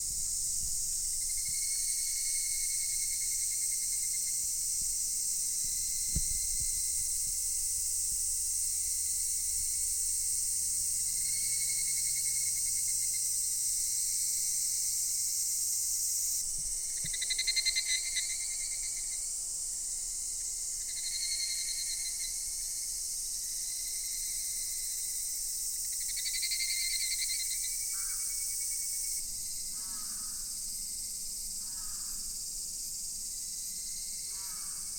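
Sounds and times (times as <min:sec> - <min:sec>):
cicadas buzzing: 0:00.0 - 0:34.9
lower cicada calls: 0:00.0 - 0:34.9.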